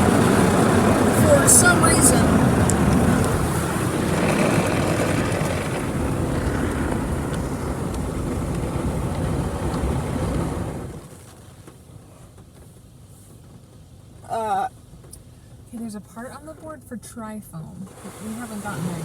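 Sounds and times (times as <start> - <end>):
water spraying onto car: 0.0 - 15.5, 17.8 - 19.0.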